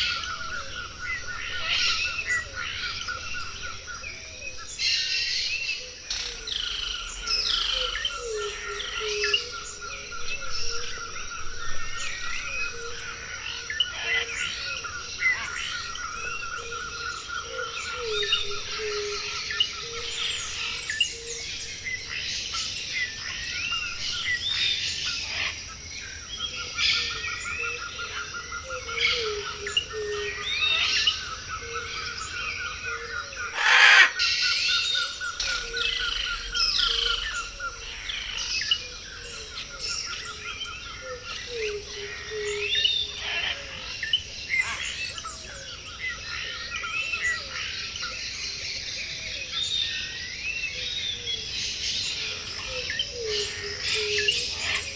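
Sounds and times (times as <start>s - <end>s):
birds whistling and chirping: 0.0s - 54.9s.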